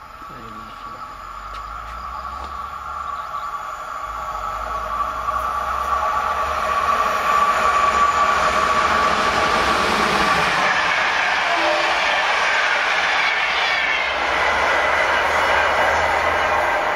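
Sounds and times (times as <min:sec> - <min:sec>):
high locomotive whine: 0:00.0 - 0:16.9
train rushing past: 0:00.0 - 0:16.9.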